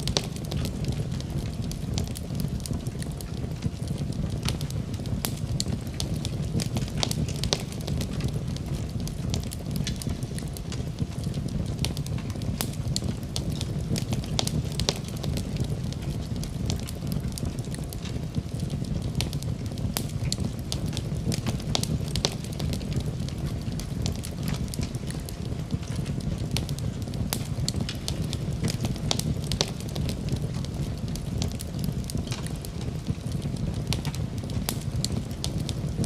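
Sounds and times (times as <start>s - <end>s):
fire crackles and pops: 0.0s - 36.0s
fire rumbling: 0.0s - 36.0s.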